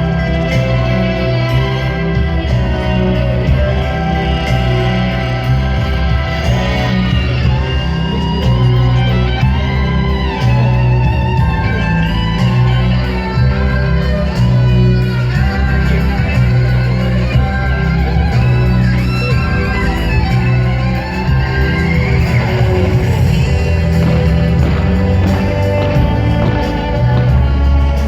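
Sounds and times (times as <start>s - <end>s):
bass line: 0.0s - 28.0s
gliding guitar melody: 0.0s - 28.0s.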